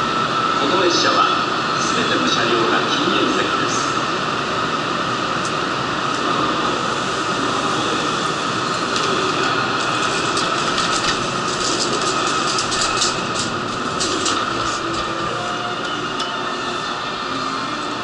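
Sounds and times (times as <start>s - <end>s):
train humming at platform: 0.0s - 18.0s.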